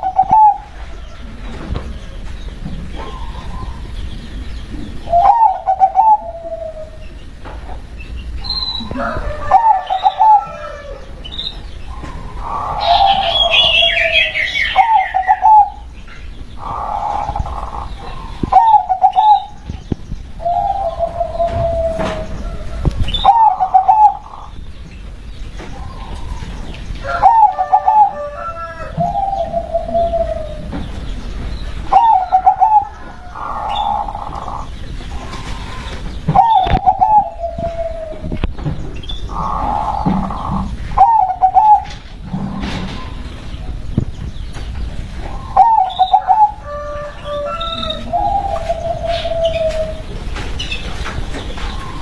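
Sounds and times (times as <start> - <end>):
dove cooing: 0.0 - 1.1, 2.9 - 4.0, 4.9 - 11.2, 11.9 - 15.9, 16.6 - 24.6, 25.7 - 38.6, 39.3 - 43.3, 45.2 - 50.8
higher bird chirp: 0.0 - 52.0.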